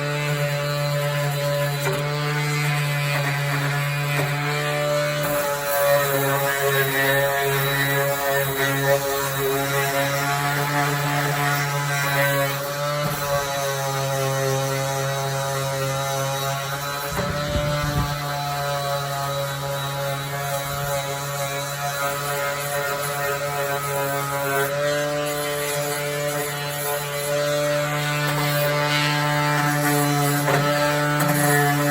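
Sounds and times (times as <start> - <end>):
electric sander motor running: 0.0 - 31.9
gritty sanding noise: 0.0 - 31.9.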